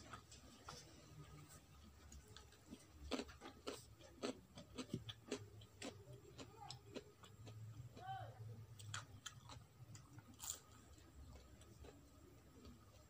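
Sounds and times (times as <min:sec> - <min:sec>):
person chewing food: 0:00.0 - 0:08.1, 0:08.7 - 0:13.0
low background hum: 0:00.0 - 0:13.0.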